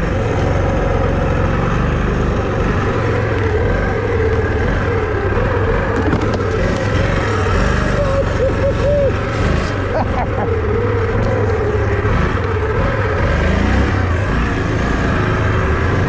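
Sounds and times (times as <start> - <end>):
vehicle engine under load: 0.0 - 16.0.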